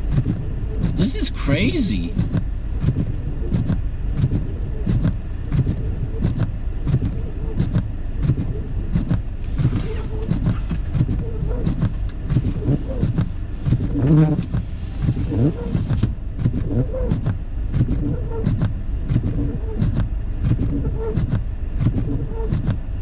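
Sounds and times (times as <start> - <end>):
engine and tyres rumbling: 0.0 - 23.0.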